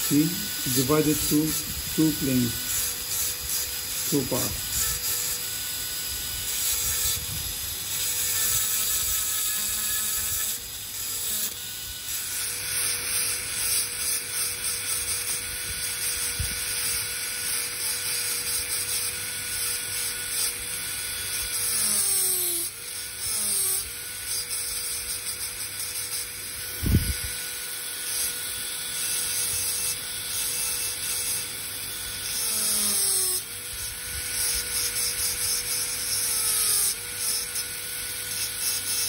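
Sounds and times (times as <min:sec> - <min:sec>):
dental drill whining and grinding: 0:00.0 - 0:39.0.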